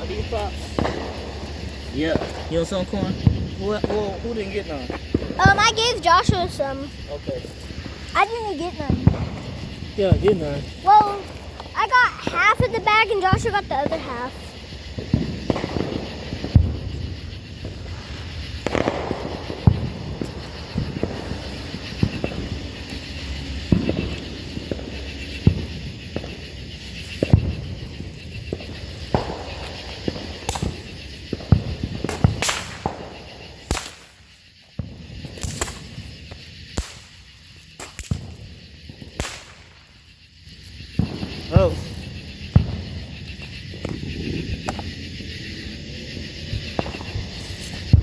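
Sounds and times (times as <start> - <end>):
fireworks crackling: 0.0 - 48.0
fireworks popping and banging: 0.0 - 48.0.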